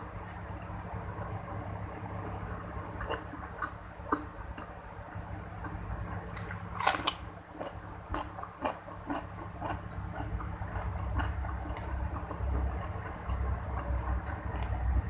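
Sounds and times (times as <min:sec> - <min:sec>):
crunching and chewing crisp food: 0:00.0 - 0:15.0.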